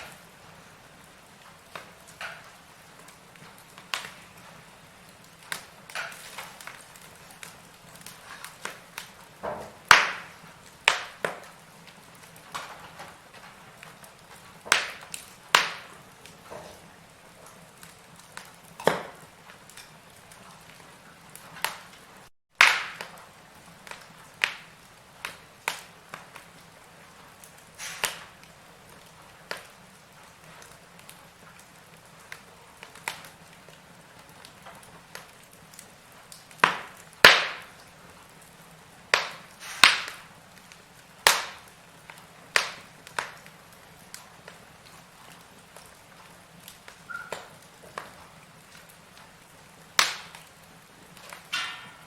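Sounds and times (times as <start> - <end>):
faint steady hiss: 0.0 - 52.0
firewood crackling and popping: 0.0 - 52.0.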